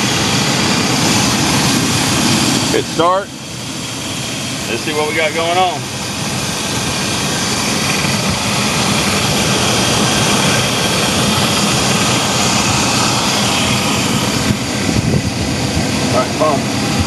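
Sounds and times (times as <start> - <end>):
van engine running: 0.0 - 17.0.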